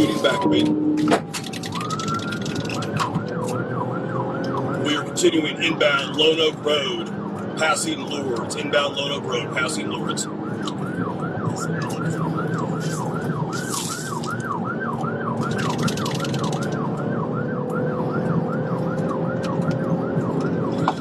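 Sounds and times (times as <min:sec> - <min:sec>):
engine and road noise: 0:00.0 - 0:21.0
police siren yelping: 0:00.0 - 0:21.0.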